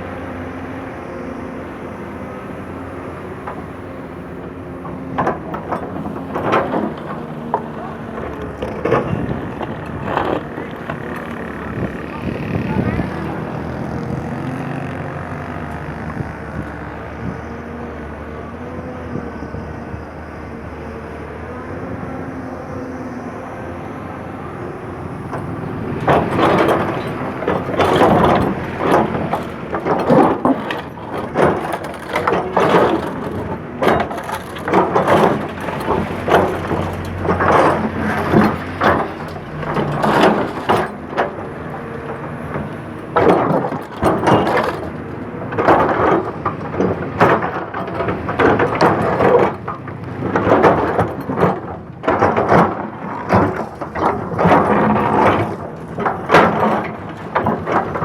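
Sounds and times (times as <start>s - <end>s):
bucket crunching broken road material: 0.0s - 16.0s, 24.4s - 58.0s
excavator diesel engine running: 0.0s - 58.0s.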